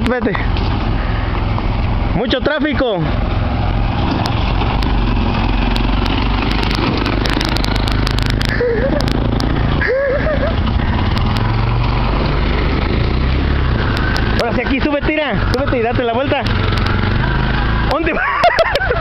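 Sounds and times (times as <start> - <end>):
small engines running: 0.1 - 19.0.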